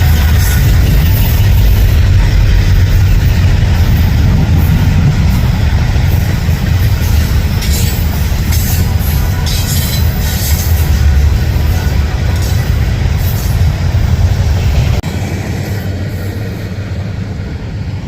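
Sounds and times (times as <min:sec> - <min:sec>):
sharp train wheel noise: 0:00.0 - 0:18.0
train rumbling past: 0:00.0 - 0:18.0.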